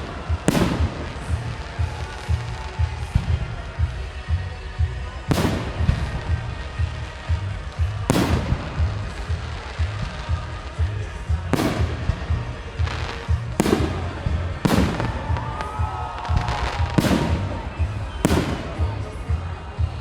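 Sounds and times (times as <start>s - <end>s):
fireworks bursting with echo: 0.0s - 20.0s
music with bass beat: 0.0s - 20.0s.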